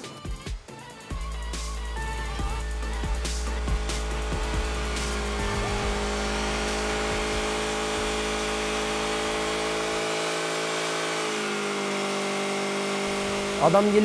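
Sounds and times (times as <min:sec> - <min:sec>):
car engine at high revs: 0:01.1 - 0:14.0
tyres spinning in burnout: 0:01.1 - 0:14.0.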